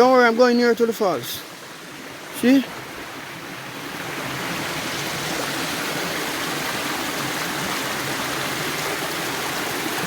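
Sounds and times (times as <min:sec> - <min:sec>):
river water rushing over rocks: 0:00.0 - 0:10.0.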